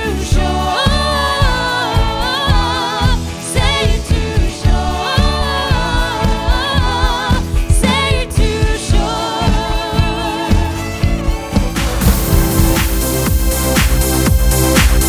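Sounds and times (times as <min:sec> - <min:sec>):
drum beat and bass: 0:00.0 - 0:15.0
pop song with lead vocal: 0:00.0 - 0:15.0.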